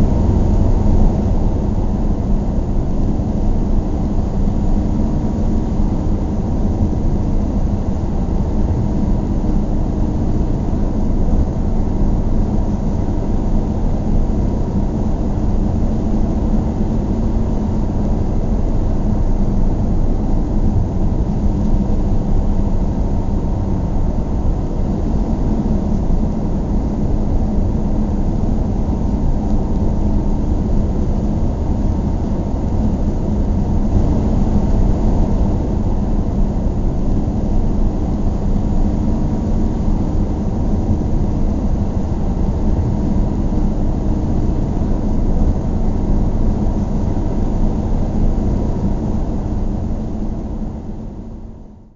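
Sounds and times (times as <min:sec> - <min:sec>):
car engine and tyre rumble: 0:00.0 - 0:50.7.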